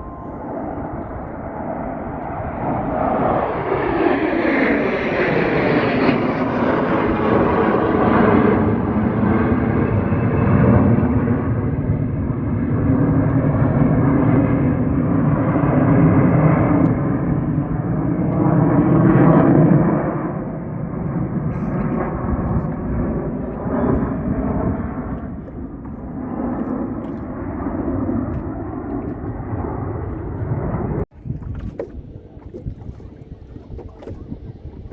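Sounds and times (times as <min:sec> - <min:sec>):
aircraft engine roar: 0:00.0 - 0:34.9.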